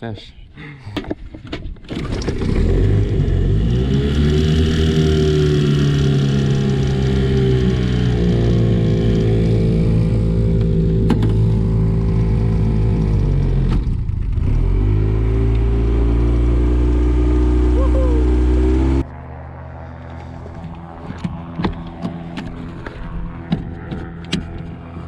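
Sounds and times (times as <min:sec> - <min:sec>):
outboard motor running: 0:01.8 - 0:25.0.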